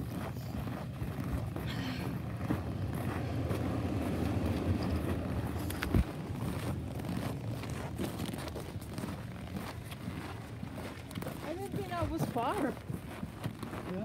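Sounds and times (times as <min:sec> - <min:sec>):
wind rumble: 0:00.0 - 0:13.7.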